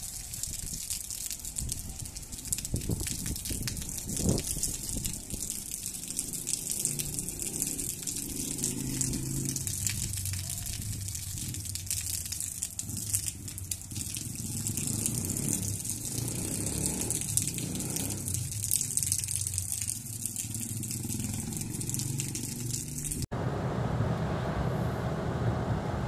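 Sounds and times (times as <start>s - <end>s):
rain falling: 0.0s - 23.3s.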